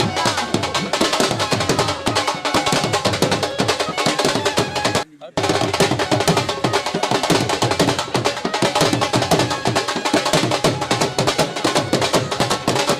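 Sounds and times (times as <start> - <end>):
fast drumming: 0.0 - 12.9.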